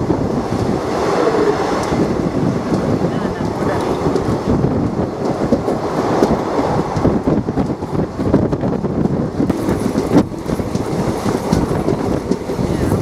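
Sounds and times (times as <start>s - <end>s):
train rumbling along track: 0.0s - 13.0s
wheels and coach rattling: 0.0s - 13.0s.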